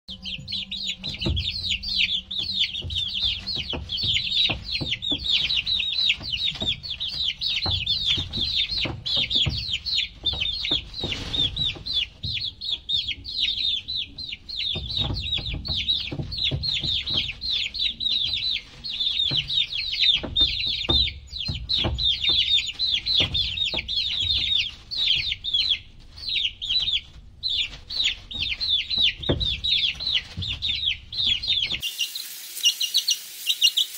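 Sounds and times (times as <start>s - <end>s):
baby chicks peeping: 0.1s - 33.9s
soft knocks: 0.9s - 26.2s, 26.8s - 31.8s.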